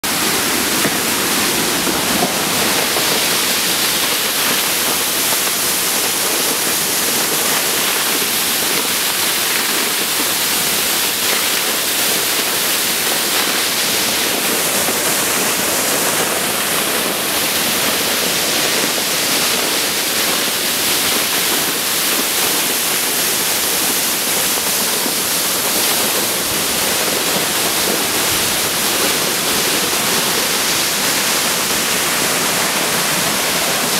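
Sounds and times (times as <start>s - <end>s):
waterfall rushing and splashing: 0.0s - 33.9s.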